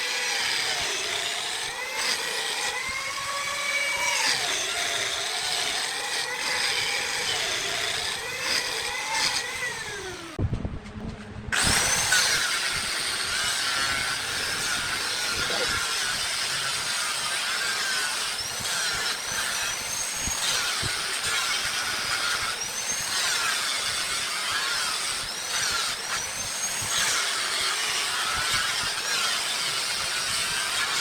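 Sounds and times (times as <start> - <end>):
power tool cutting wood: 0.0 - 10.4, 11.5 - 31.0.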